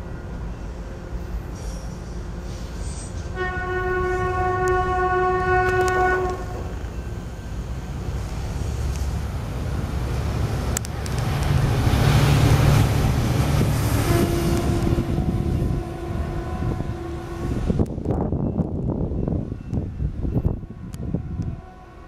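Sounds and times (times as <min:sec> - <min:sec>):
passing train rumbling: 0:00.0 - 0:22.0.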